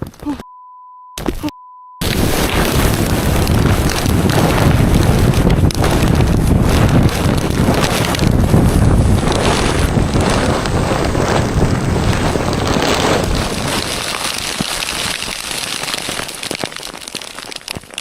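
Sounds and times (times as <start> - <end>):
strong wind buffeting microphone: 2.0 - 16.5.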